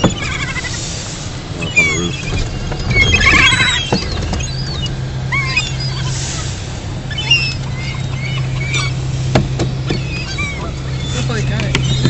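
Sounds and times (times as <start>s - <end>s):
gulls calling: 0.0s - 12.0s.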